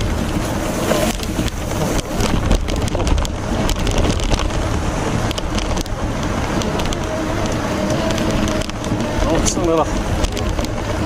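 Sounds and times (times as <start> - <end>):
knocks and clicks from trike: 0.0 - 11.0
low rumble: 0.0 - 11.0
wind buffeting microphone: 0.0 - 11.0.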